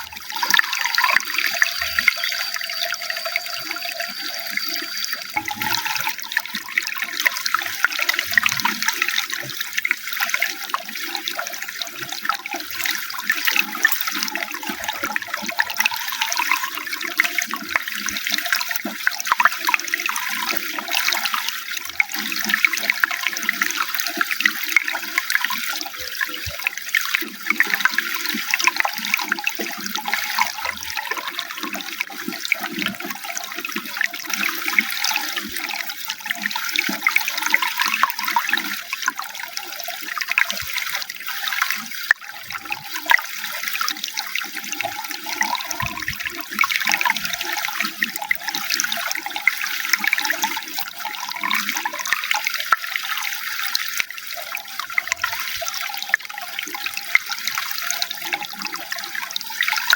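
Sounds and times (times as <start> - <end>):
running water with splashes: 0.0 - 59.9.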